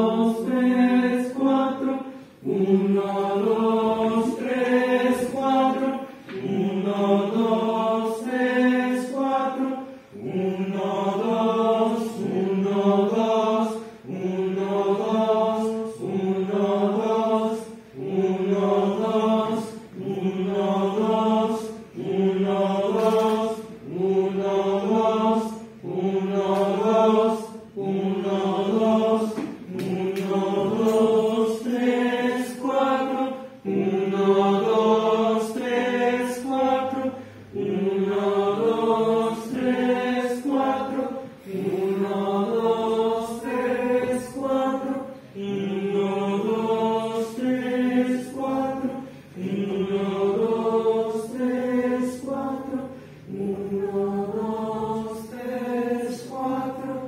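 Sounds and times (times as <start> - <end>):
choir singing chant-like phrases: 0.0 - 57.0.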